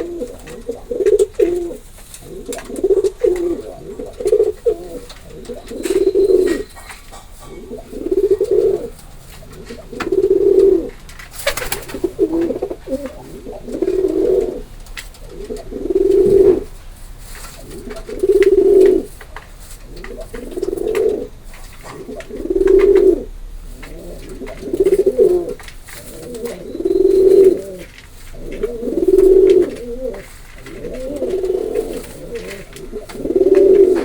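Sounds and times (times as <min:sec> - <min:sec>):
pigeon cooing: 0:00.0 - 0:34.0.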